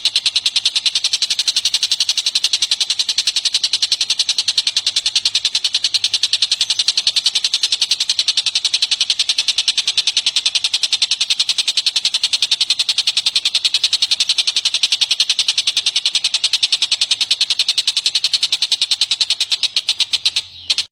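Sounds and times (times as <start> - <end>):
bird trilling: 0.0 - 20.9.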